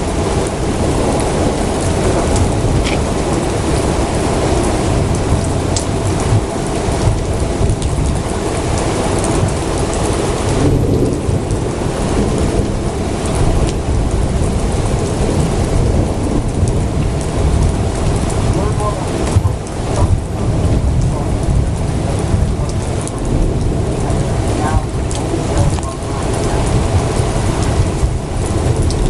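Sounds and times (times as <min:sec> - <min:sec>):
heavy rain falling: 0:00.0 - 0:29.0
low rumble of thunder: 0:00.0 - 0:29.0.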